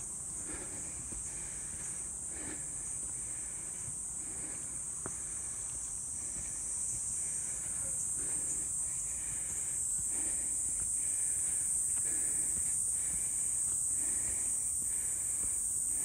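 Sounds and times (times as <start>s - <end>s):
footsteps on forest path: 0.0s - 16.0s.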